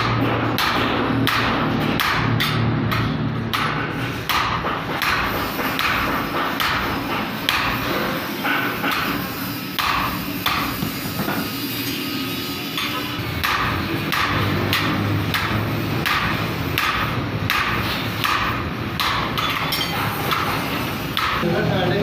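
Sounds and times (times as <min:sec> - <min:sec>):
hammer striking steel rod: 0:00.0 - 0:11.5, 0:12.8 - 0:21.4.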